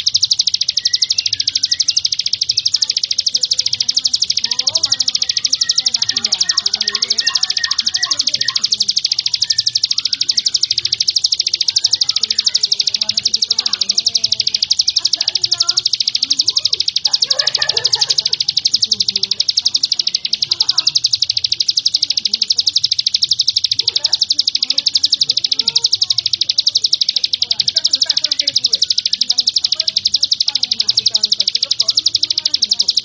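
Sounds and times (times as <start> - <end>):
bird high-pitched trill: 0.0 - 33.0
faint lower chirps: 0.0 - 33.0.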